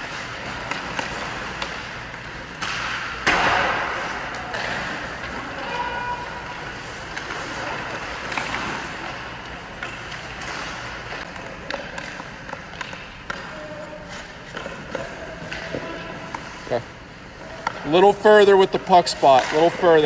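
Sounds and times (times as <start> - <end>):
stick striking pucks: 0.0 - 16.7, 17.3 - 20.0
skate blades scraping ice: 0.0 - 20.0.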